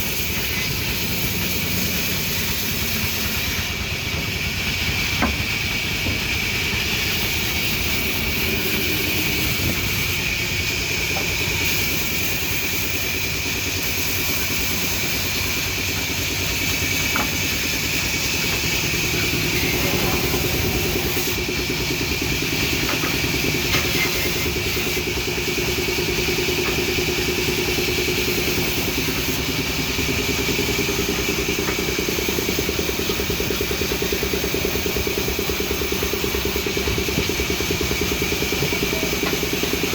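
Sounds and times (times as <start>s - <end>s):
band saw running with high whine: 0.0s - 39.9s.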